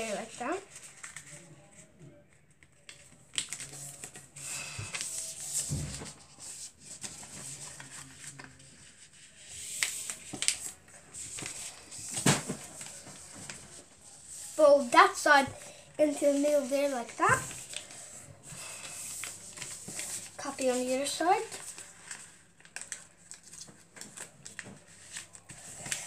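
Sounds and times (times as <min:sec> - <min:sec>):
paper rustling and creasing: 0:00.0 - 0:26.0.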